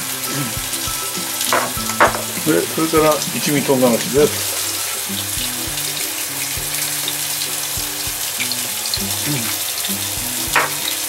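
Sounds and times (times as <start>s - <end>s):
food sizzling in oil: 0.0s - 11.0s
light background music: 0.0s - 11.0s.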